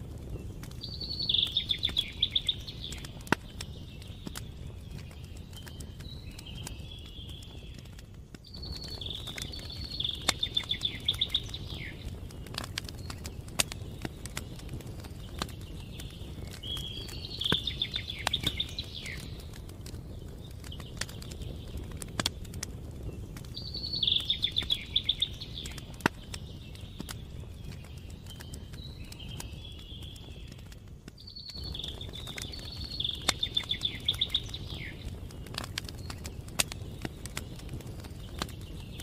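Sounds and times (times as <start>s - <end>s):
campfire crackling and popping: 0.0s - 39.0s
songbird singing a falling trill: 0.3s - 7.9s, 8.5s - 21.9s, 23.1s - 39.0s.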